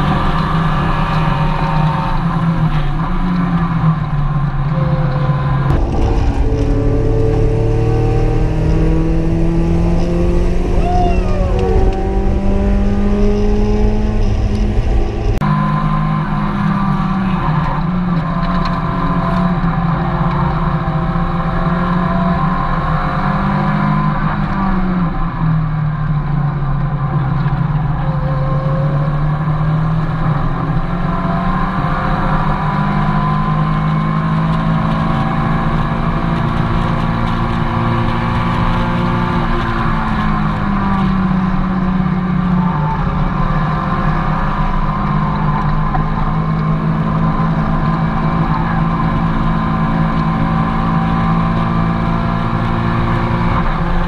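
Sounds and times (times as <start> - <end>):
car engine under hard driving: 0.0 - 54.0.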